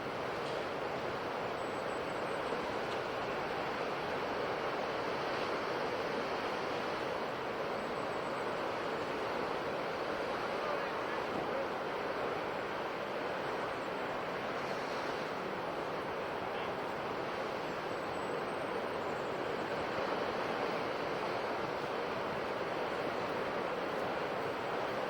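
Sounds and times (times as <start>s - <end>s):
sea surf washing ashore: 0.0s - 25.0s.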